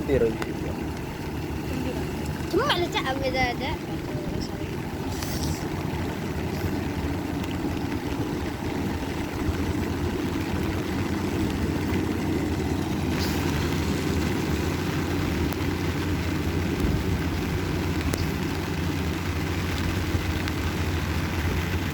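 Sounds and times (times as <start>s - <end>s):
combine harvester engine humming: 0.0s - 21.9s.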